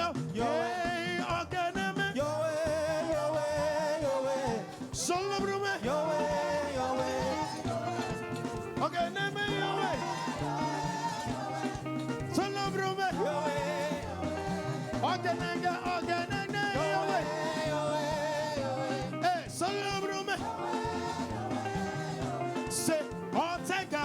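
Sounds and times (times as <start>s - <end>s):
church band playing: 0.0s - 24.0s
voices singing: 0.0s - 24.0s.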